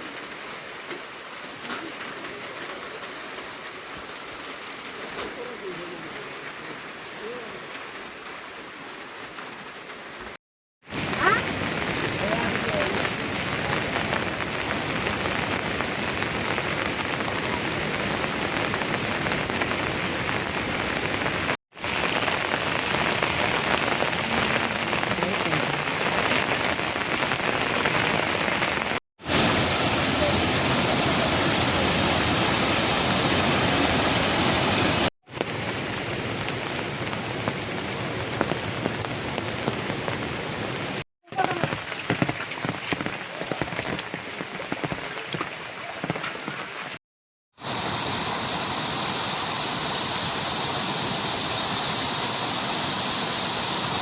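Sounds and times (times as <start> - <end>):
heavy rain: 0.0 - 47.0, 47.6 - 54.0.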